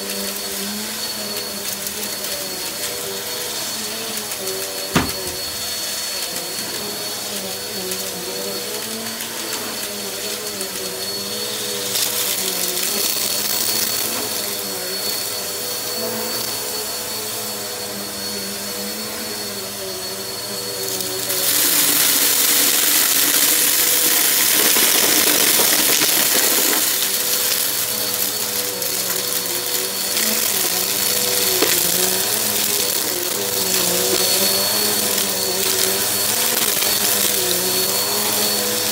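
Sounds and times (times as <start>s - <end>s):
upright vacuum cleaner on carpet: 0.0s - 38.9s.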